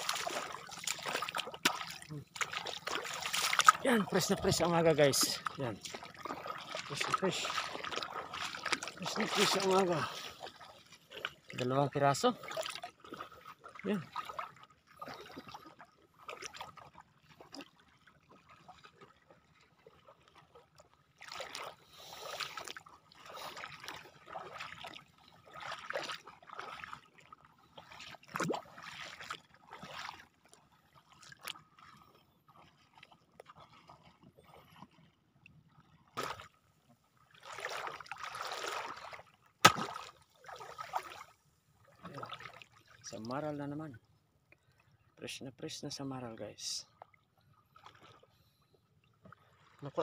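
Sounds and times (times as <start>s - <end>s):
seawater sloshing from wading: 0.0s - 43.4s.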